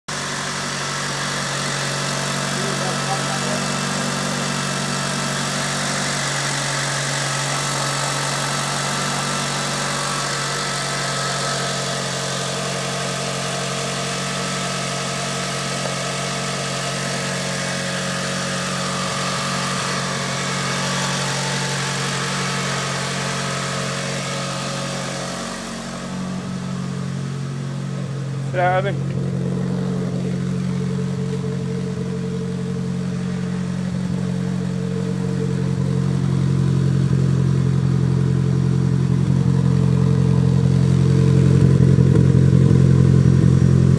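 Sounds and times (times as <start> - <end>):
car engine idling: 0.1 - 43.9.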